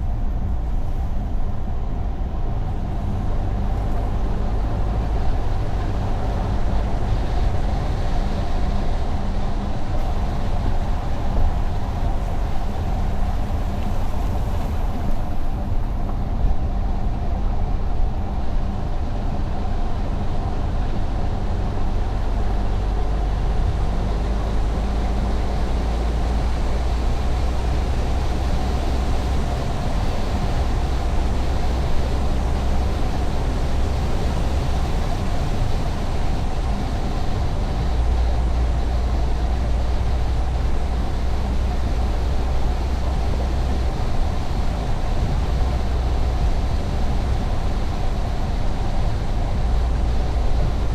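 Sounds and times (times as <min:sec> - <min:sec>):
car driving on highway: 0:00.0 - 0:50.9.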